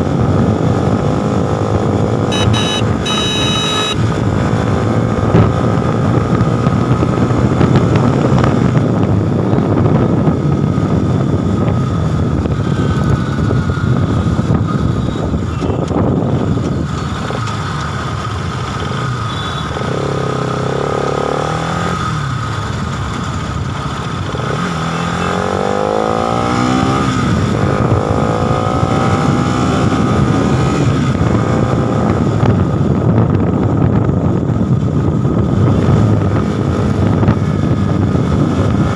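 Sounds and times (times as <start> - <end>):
wind noise on microphone: 0.0 - 19.1, 19.8 - 38.9
motorcycle engine running: 0.0 - 38.9.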